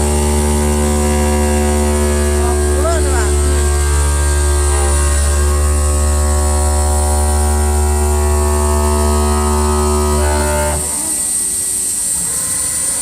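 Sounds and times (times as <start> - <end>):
machine motor hum: 0.0 - 13.0
thin high whine: 0.0 - 13.0.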